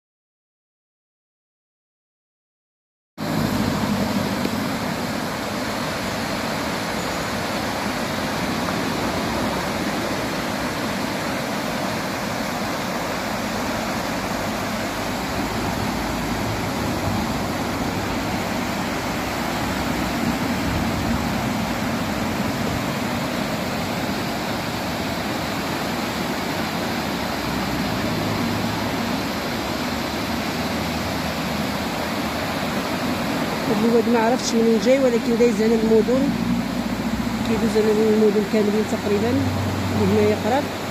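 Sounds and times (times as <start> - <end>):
water rushing over rocks: 3.2 - 40.9.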